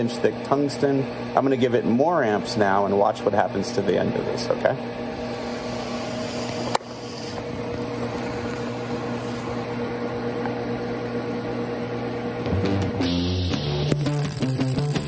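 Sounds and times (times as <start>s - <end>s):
welding machine electrical hum: 0.0s - 15.0s.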